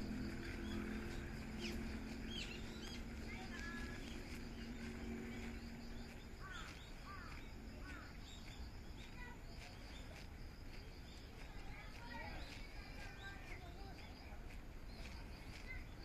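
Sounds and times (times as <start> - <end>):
low background rumble: 0.0 - 16.0
small birds chirping: 0.0 - 16.0.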